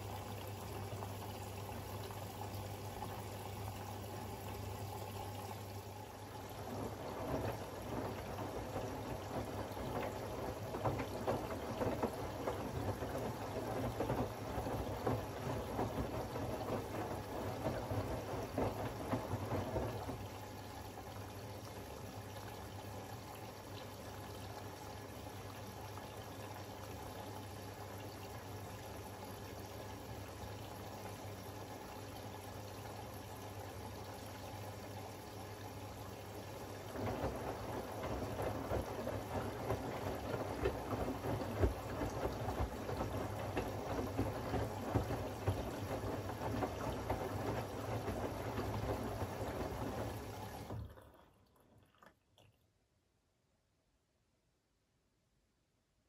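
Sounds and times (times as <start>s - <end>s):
washing machine water running: 0.0s - 52.5s
water and laundry sloshing: 0.0s - 52.5s.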